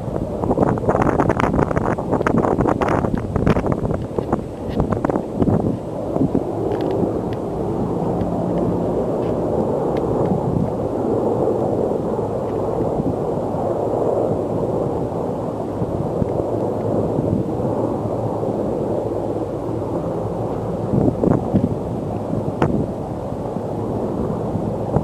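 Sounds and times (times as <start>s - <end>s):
helicopter rumble: 0.0s - 25.0s
wind buffeting microphone: 0.0s - 25.0s.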